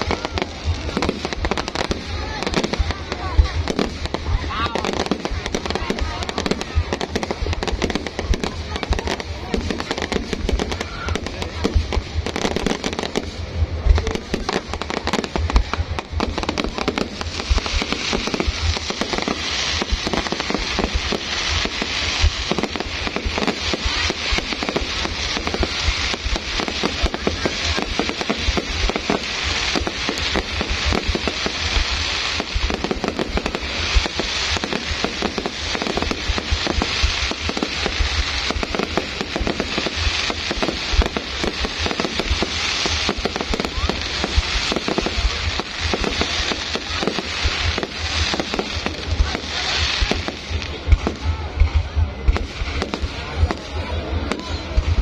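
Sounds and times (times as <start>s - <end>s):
fireworks bangs and pops: 0.0s - 55.0s
fireworks crackling hiss: 0.0s - 55.0s.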